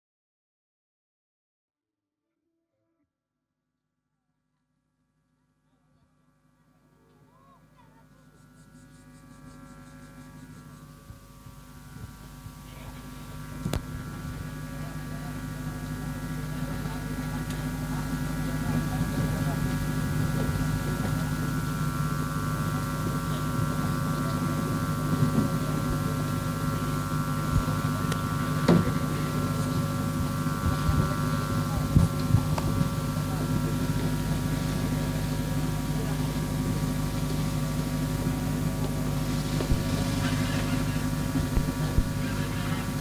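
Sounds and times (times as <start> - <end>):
droning hum: 5.4 - 43.0.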